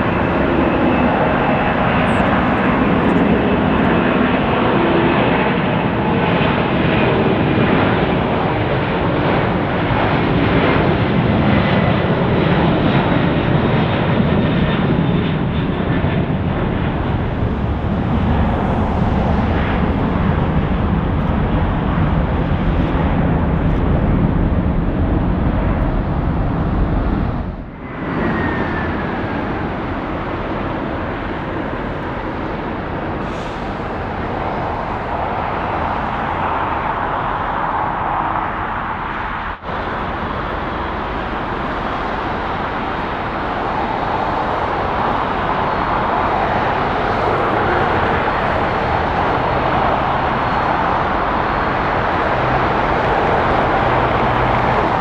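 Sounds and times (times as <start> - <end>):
distant jet noise rushing: 0.0 - 55.0
jet engines rumbling: 0.0 - 55.0.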